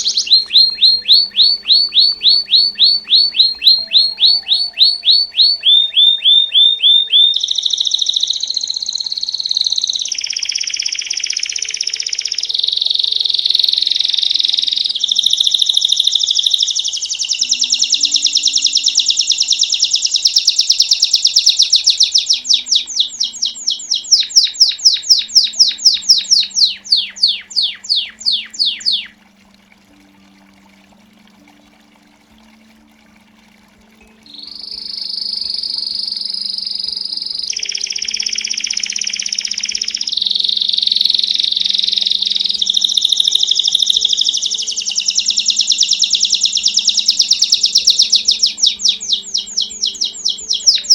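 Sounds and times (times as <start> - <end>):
canary singing rapid trills: 0.0 - 30.3, 34.0 - 50.9.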